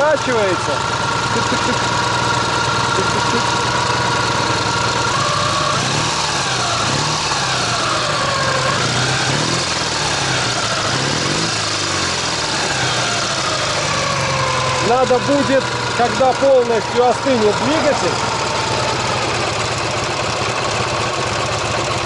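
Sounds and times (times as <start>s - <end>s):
engine cylinder knocking: 0.0s - 22.0s
motorcycle engine idling: 0.0s - 22.0s.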